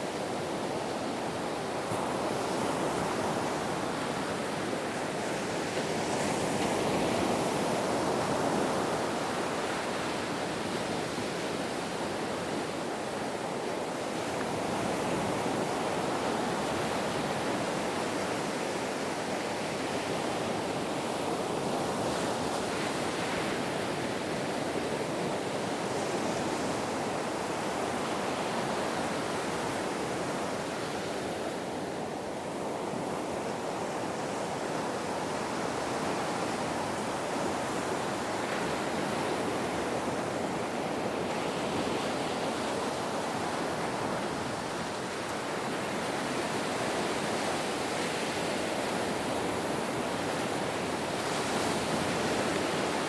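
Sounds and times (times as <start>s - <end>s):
ocean waves washing on shore: 0.0s - 53.0s.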